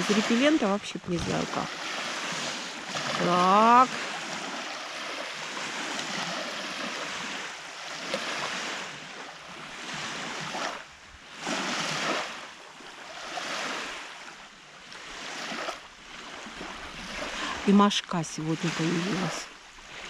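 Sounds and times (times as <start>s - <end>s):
small waves washing on shore: 0.0s - 20.0s.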